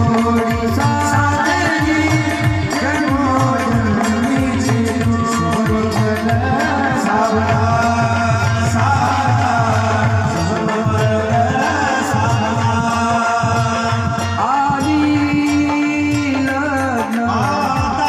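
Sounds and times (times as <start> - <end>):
tabla and dholak drumming: 0.0 - 18.0.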